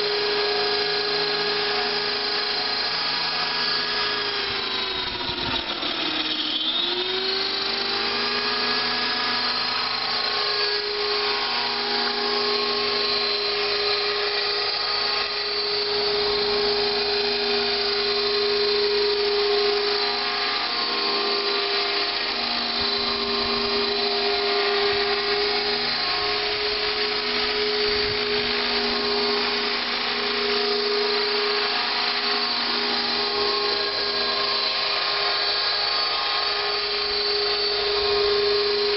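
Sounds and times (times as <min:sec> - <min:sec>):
electric motor whine: 0:00.0 - 0:38.9
helicopter rotor noise: 0:00.0 - 0:38.9.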